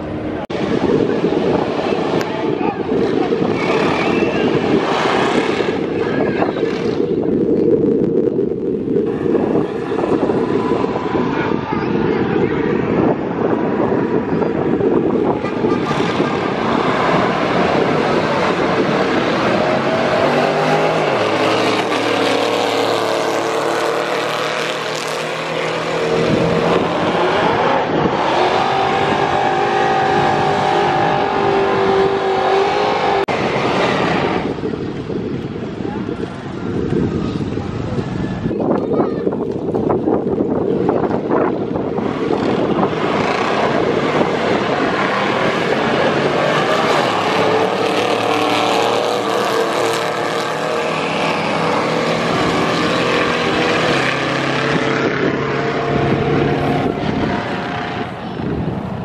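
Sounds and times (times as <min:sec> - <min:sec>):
race car engines rumbling: 0:00.0 - 0:59.0
wind buffeting microphone: 0:00.0 - 0:59.0.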